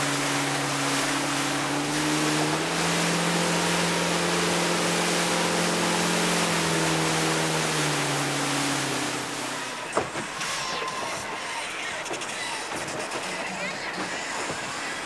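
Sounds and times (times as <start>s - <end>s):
motorboat engine hum: 0.0s - 15.0s
water rushing: 0.0s - 15.0s
wind: 0.0s - 15.0s.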